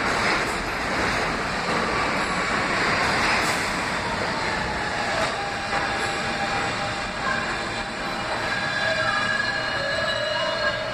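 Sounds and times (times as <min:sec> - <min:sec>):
subway train rolling on rails: 0:00.0 - 0:10.9.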